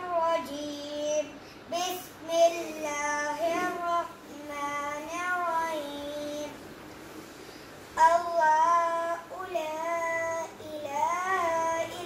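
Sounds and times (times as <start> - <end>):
boy chanting melodically: 0.0 - 6.6, 8.0 - 12.0.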